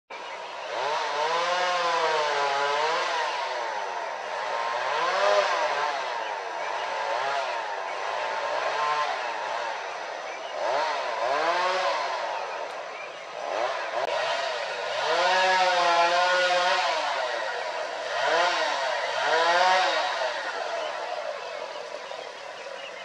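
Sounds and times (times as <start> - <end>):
chainsaw revving: 0.1 - 23.0.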